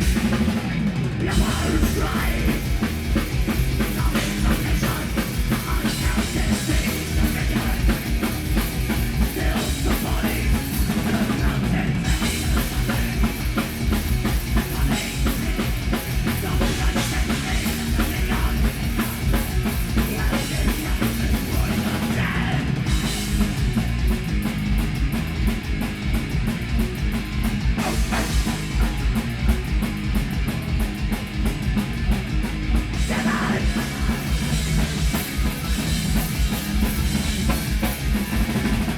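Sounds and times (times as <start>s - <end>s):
fast dense drumming: 0.0s - 38.9s
heavy metal band playing live: 0.0s - 38.9s
loud electric guitars: 0.0s - 38.9s.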